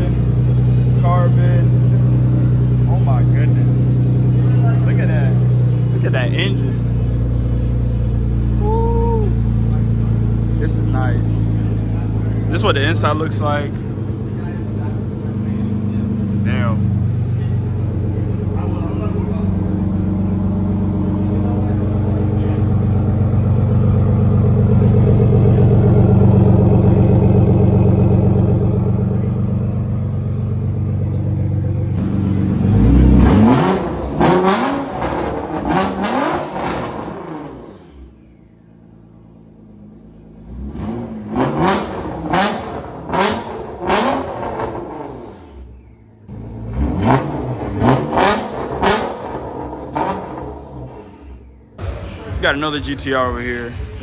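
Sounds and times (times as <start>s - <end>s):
car engine idling: 0.0s - 54.0s
engine throttle blips: 0.0s - 54.0s.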